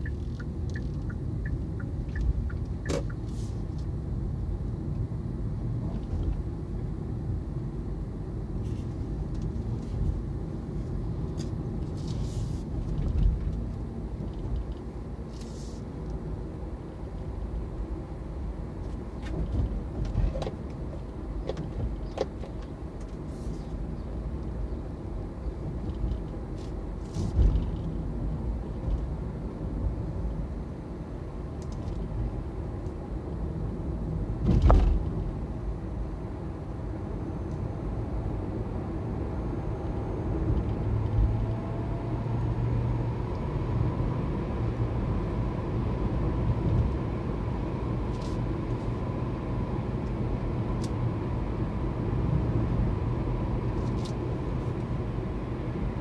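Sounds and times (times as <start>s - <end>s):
car road and tyre noise: 0.0s - 56.0s.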